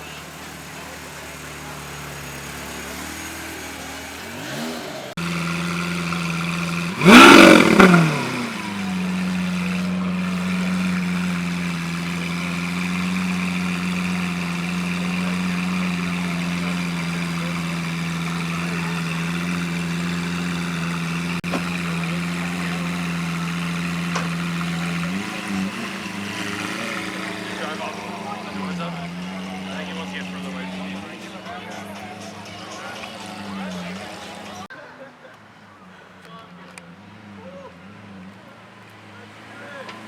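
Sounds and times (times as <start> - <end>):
car engine idling: 0.0 - 34.7
engine rev blip: 0.0 - 34.7.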